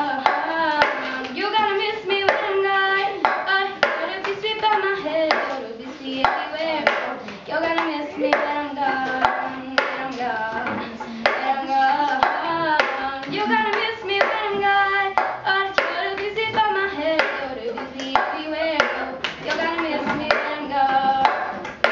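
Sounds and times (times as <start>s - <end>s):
girl singing: 0.0s - 21.9s
hand claps: 0.0s - 21.9s.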